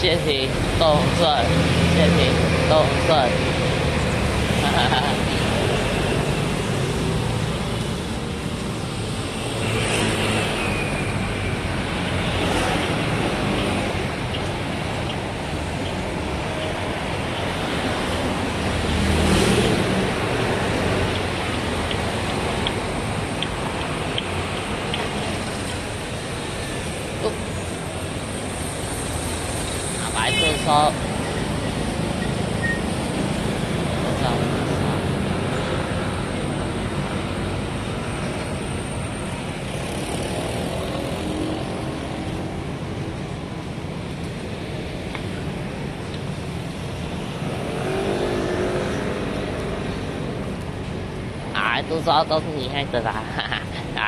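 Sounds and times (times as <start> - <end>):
street traffic: 0.0 - 54.0.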